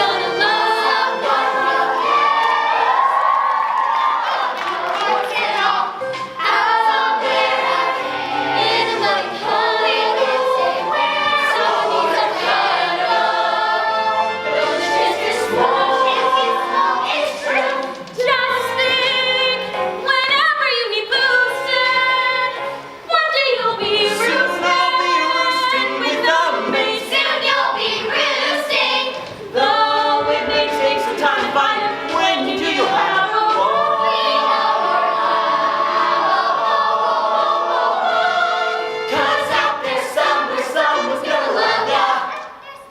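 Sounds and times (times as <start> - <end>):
children's chorus singing: 0.0 - 19.6, 21.1 - 42.9.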